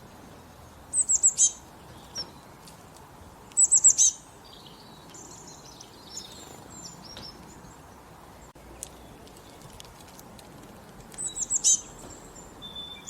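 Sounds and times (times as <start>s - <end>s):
birds twittering: 0.0s - 9.8s, 11.1s - 13.0s.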